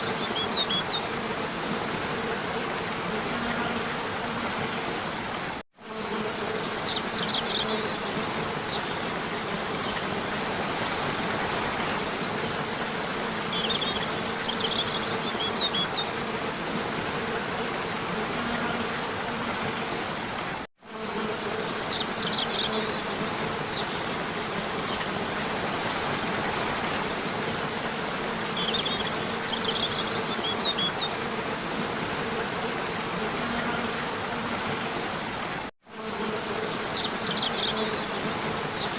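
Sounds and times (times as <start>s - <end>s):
insects buzzing hum: 0.0s - 38.9s.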